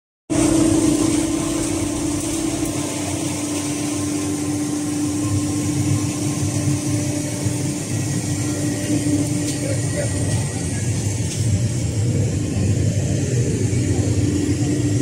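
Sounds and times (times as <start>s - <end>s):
industrial machinery humming: 0.3s - 15.0s.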